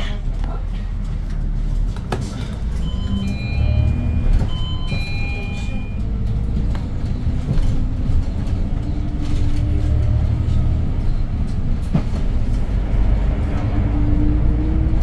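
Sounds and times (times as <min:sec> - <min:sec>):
bus engine droning: 0:00.0 - 0:15.0
road rumble: 0:00.0 - 0:15.0.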